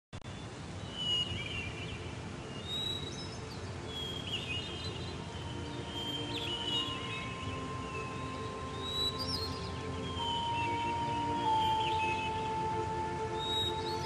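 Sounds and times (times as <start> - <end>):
low background noise: 0.2 - 14.0
birds whistling: 2.6 - 14.0.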